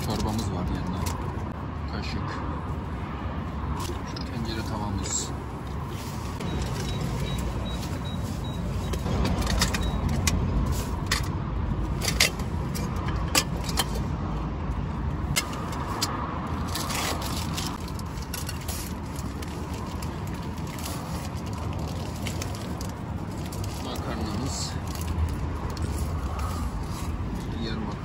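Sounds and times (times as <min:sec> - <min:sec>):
low rumble of road traffic: 0:00.0 - 0:28.0.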